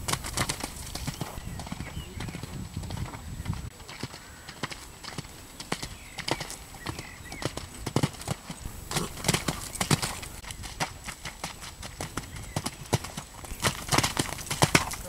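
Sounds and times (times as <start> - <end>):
horse hooves cantering on sand: 0.0 - 15.0.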